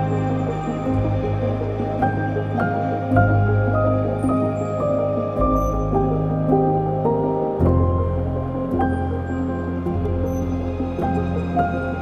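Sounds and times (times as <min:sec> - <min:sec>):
low bass drone: 0:00.0 - 0:12.0
slow background music: 0:00.0 - 0:12.0.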